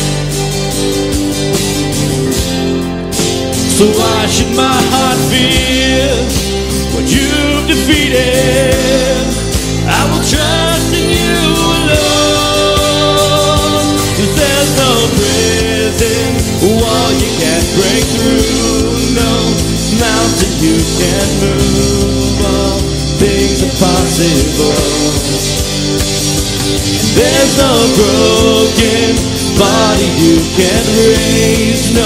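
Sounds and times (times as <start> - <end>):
live band playing: 0.0 - 32.0
voices singing: 3.6 - 32.0.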